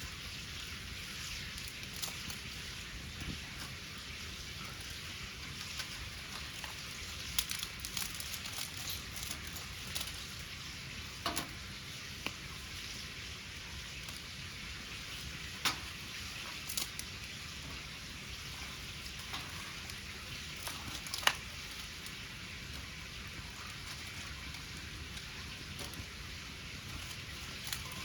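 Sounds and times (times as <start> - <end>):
bonfire hissing: 0.0 - 28.0.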